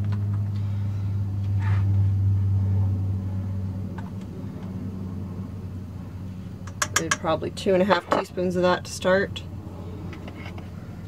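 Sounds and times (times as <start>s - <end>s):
fan or motor humming: 0.0s - 11.0s.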